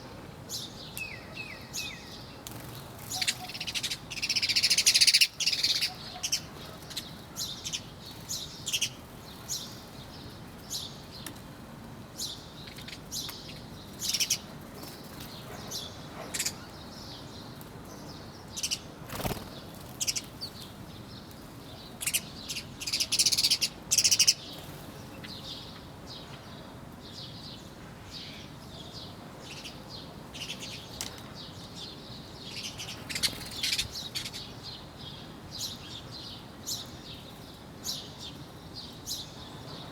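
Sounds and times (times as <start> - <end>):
small birds chirping: 0.5 - 39.9.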